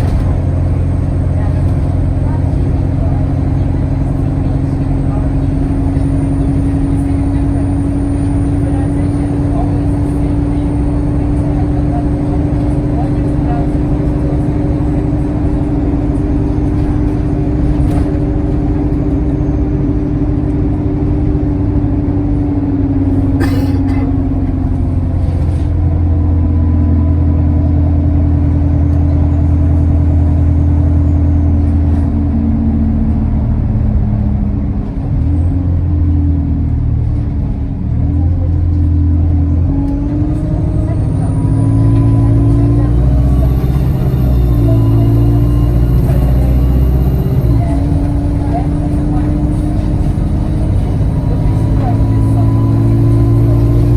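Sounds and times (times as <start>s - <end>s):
bus engine droning: 0.0s - 53.9s.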